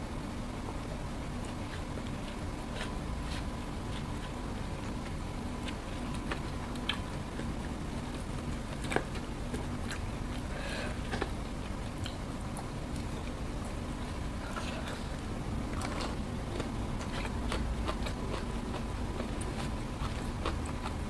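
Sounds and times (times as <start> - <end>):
low background hum: 0.0 - 21.0
chewing: 1.4 - 21.0.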